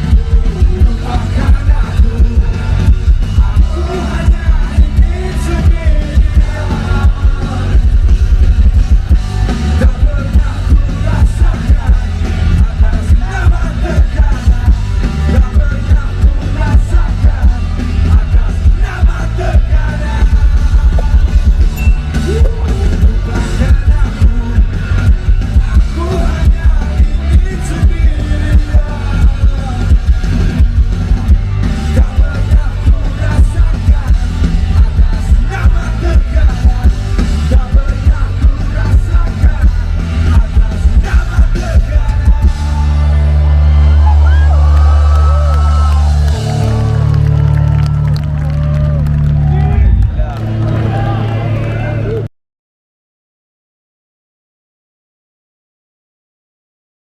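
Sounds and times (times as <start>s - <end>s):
live rock band playing: 0.0s - 52.1s.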